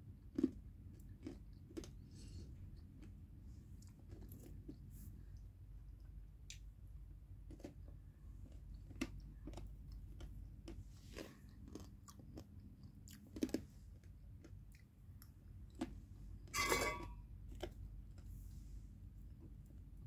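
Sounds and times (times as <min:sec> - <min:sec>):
popcorn being chewed: 0:00.0 - 0:18.5.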